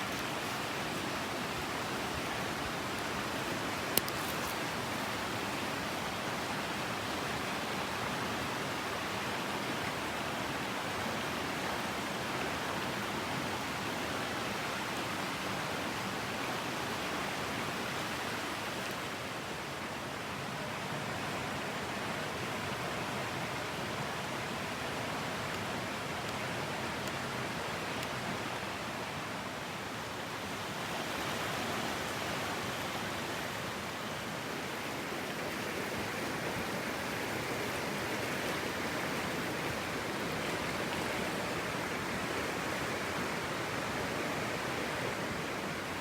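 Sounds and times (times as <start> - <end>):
mountain stream rushing: 0.0 - 46.0.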